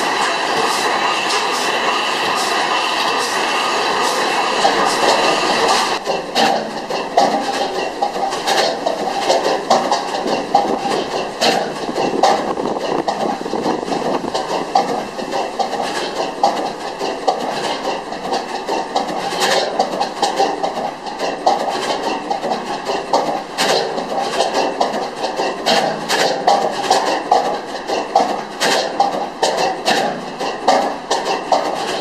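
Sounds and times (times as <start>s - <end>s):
gas engine exhaust clatter: 0.0s - 32.0s.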